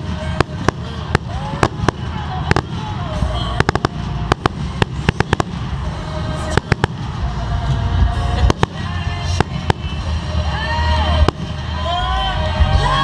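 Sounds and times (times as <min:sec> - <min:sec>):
fireworks crackling pops: 0:00.0 - 0:12.3.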